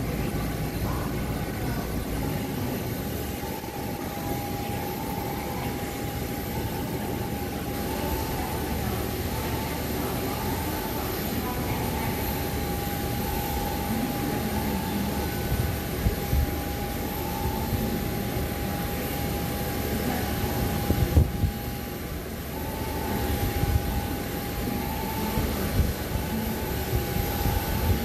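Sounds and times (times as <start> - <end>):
auxiliary power unit whine: 0.0 - 28.0
constant rushing noise: 0.0 - 28.0.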